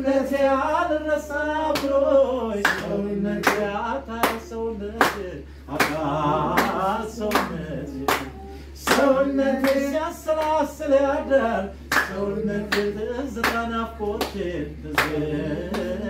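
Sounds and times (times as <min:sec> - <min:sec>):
man singing unaccompanied: 0:00.0 - 0:16.0
hand claps: 0:01.7 - 0:10.8, 0:11.9 - 0:16.0.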